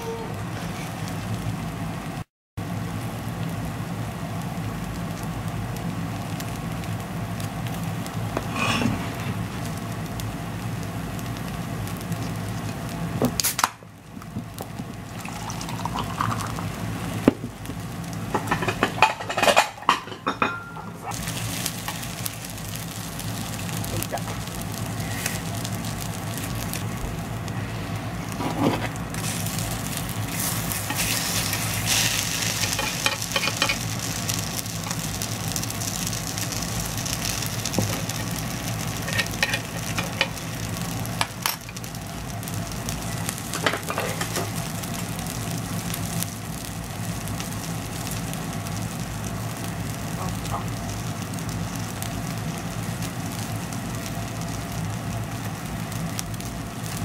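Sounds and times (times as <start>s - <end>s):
batter sizzling in pan: 0.0s - 57.0s
steady low hum: 0.0s - 57.0s.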